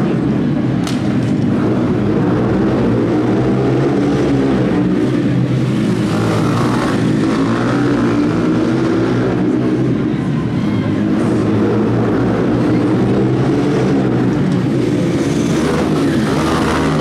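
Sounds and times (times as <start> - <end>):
small engines revving: 0.0 - 17.0.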